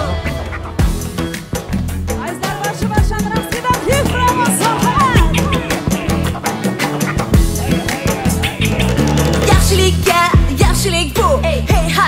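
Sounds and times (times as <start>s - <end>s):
bass: 0.0s - 12.0s
live amplified pop song: 0.0s - 12.0s
steady drum beat: 0.0s - 12.0s.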